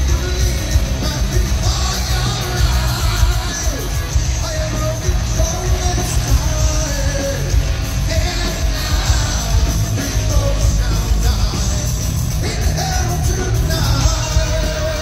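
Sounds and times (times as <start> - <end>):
hard rock band playing live: 0.0 - 15.0
lead singer singing: 0.0 - 15.0.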